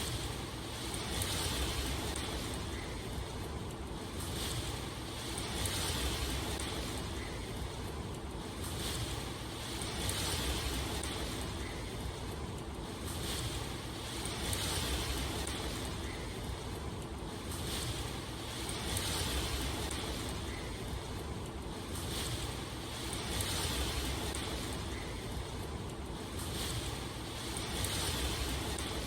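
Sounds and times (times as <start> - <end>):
rushing water: 0.0 - 29.0.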